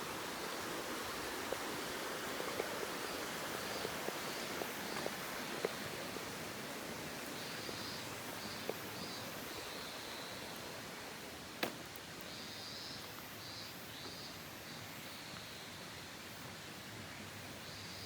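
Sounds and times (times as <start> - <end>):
waterfall hiss: 0.0 - 18.0.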